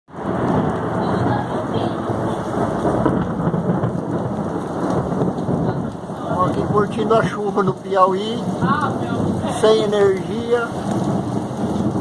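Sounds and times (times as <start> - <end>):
heavy rain: 0.1 - 12.0
thunder rumbling: 0.1 - 12.0.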